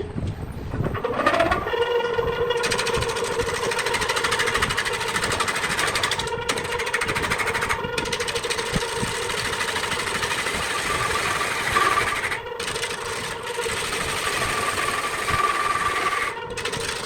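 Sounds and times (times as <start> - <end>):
wood lathe motor whining: 0.0 - 17.0
turning tool chattering on wood: 1.0 - 17.0.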